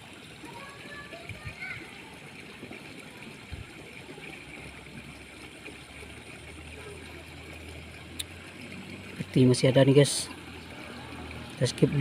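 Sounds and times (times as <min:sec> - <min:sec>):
faint trickling water: 0:00.0 - 0:12.0.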